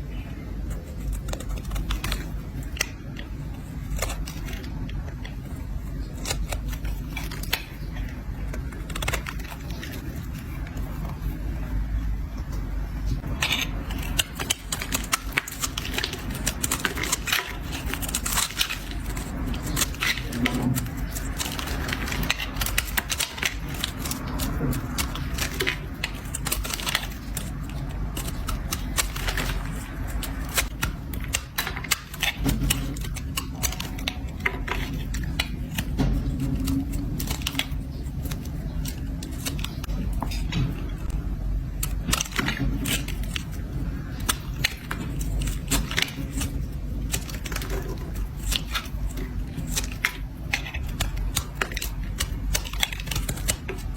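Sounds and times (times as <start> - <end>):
blade scraping soap: 0.1 - 11.6, 13.2 - 41.2, 41.8 - 53.9.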